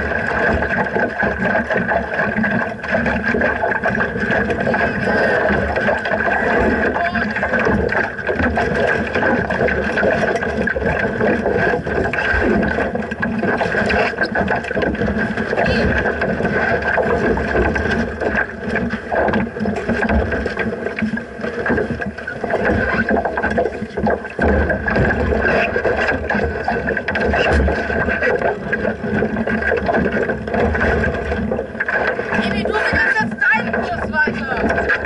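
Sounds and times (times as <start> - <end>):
water noise: 0.0 - 35.0.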